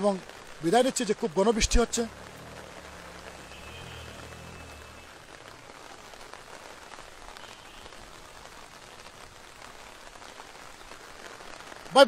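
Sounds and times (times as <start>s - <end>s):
heavy rain falling on water: 0.0s - 12.0s.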